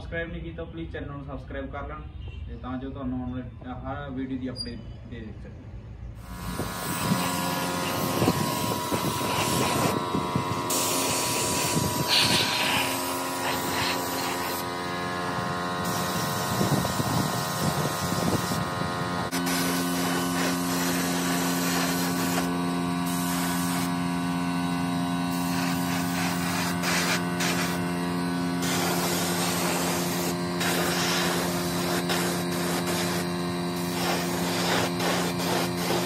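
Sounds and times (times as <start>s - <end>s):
steady low hum: 5.8s - 36.0s
spray gun hissing: 6.2s - 15.1s, 15.8s - 36.0s.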